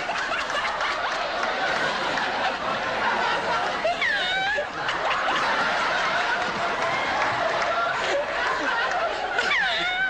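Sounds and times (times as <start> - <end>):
crowd laughing: 0.0 - 10.0.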